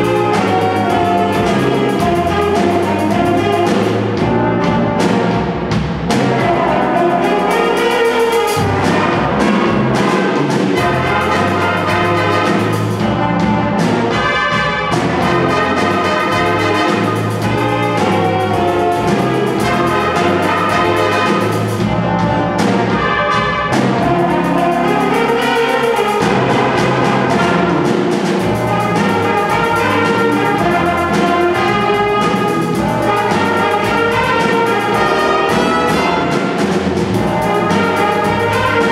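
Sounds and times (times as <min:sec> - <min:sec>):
jazz big band playing: 0:00.0 - 0:38.9.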